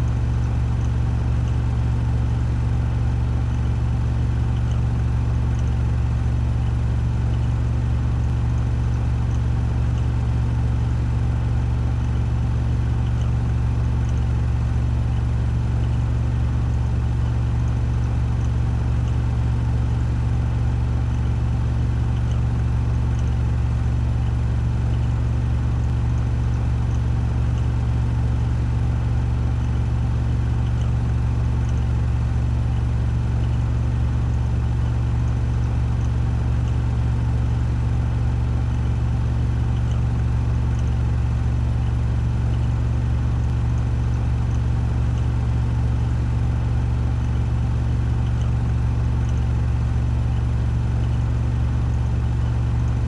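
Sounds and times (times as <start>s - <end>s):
washing machine spinning hum: 0.0s - 53.0s.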